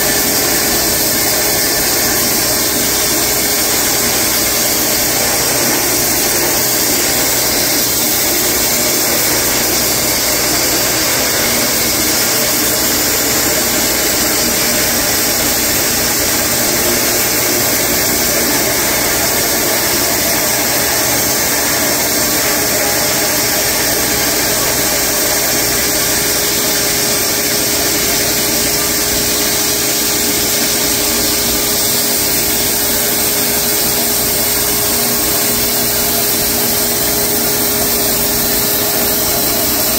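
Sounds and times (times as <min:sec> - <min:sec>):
band sawmill cutting a log: 0:00.0 - 0:39.9.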